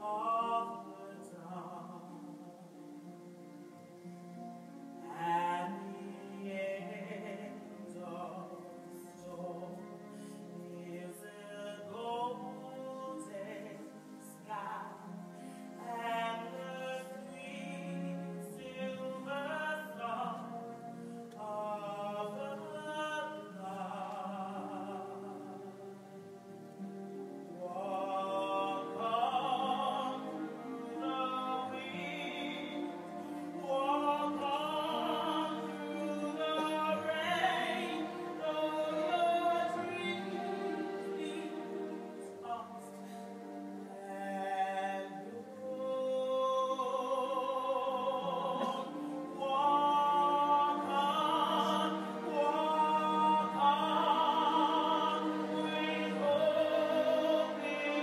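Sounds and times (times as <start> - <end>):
woman singing operatic ballad: 0.0 - 3.6, 4.7 - 58.0
orchestra strings: 0.0 - 58.0.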